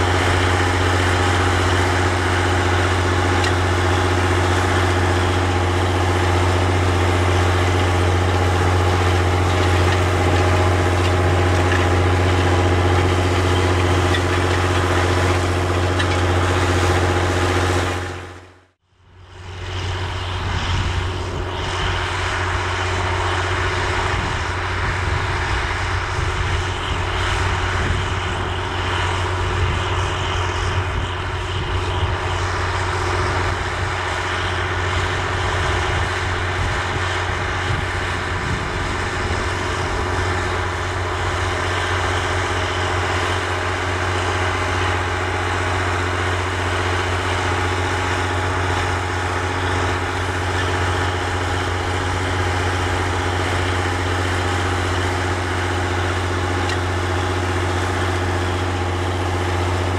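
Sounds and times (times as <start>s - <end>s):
tractor diesel engine droning: 0.0s - 59.9s.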